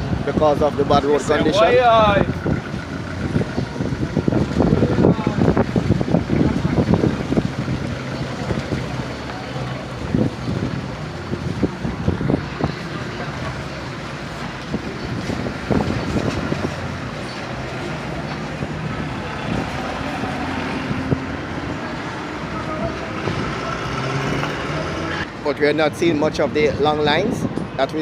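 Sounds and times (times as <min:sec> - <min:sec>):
low engine hum: 0:00.0 - 0:25.4
vehicles passing: 0:00.0 - 0:28.0.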